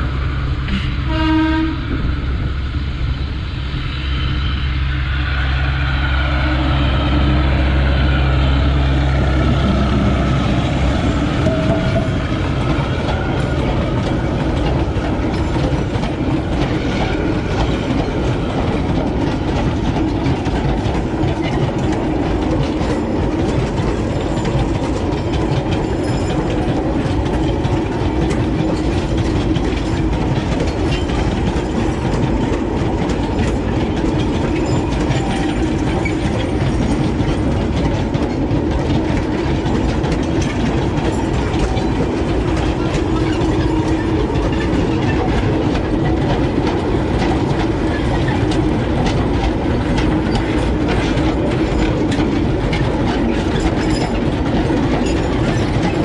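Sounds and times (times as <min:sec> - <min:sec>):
train wagons rumbling past: 0:00.0 - 0:56.0
wheels clattering on rails: 0:05.3 - 0:56.0.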